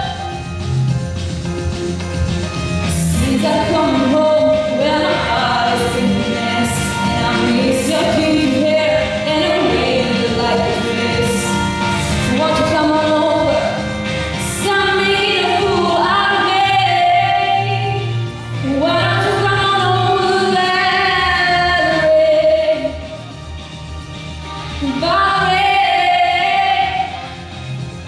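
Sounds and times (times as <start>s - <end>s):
instrumental accompaniment: 0.0s - 28.0s
woman singing into microphone: 2.9s - 23.1s, 24.8s - 27.4s.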